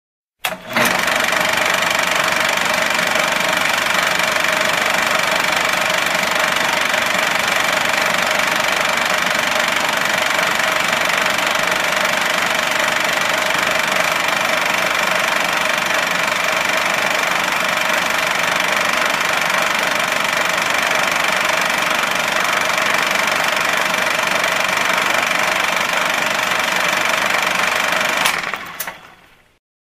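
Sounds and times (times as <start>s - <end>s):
projector mechanism rattling: 0.4s - 29.3s.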